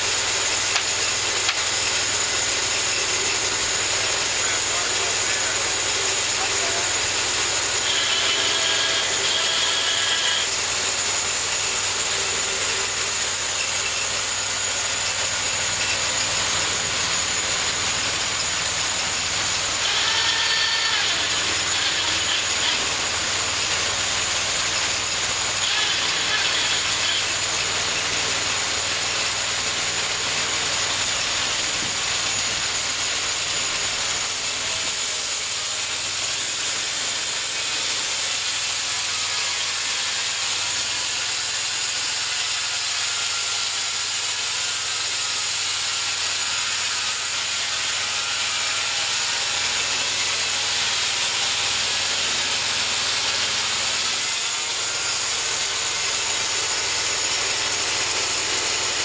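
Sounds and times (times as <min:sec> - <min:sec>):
saw blade cutting log: 0:00.0 - 0:59.0.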